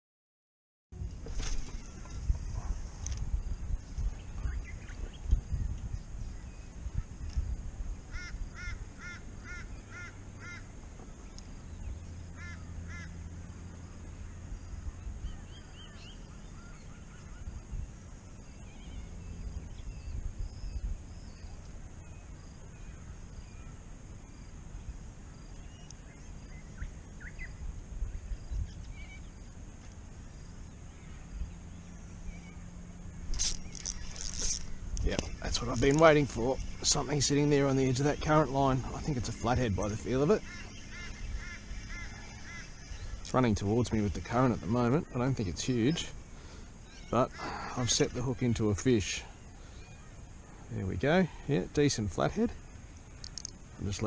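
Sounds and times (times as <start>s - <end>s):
constant high hiss: 1.0s - 54.0s
steady low rumble: 1.0s - 54.0s
bird calling: 1.3s - 54.0s
bird chirps: 3.4s - 7.4s, 8.1s - 51.0s.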